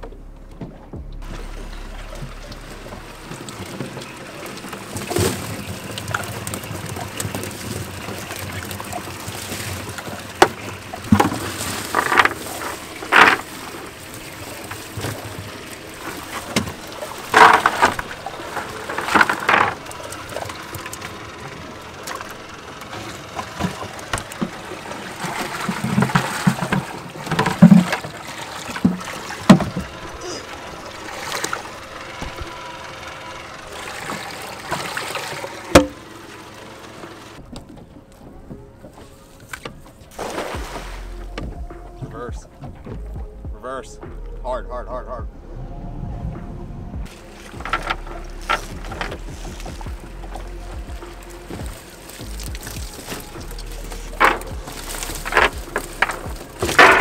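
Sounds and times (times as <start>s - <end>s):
water washing: 0.0s - 43.6s, 46.3s - 57.0s
fish flapping and splashing: 1.3s - 41.2s, 47.1s - 57.0s.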